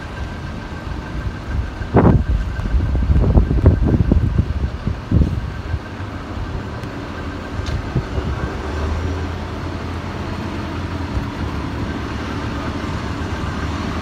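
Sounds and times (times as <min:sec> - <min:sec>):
street noise hiss: 0:00.0 - 0:14.0
vehicle engine humming: 0:00.0 - 0:14.0.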